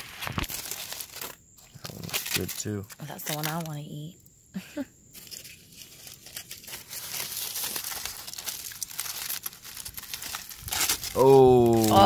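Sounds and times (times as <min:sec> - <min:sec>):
aluminium foil crinkling: 0:00.0 - 0:04.0, 0:05.1 - 0:12.0.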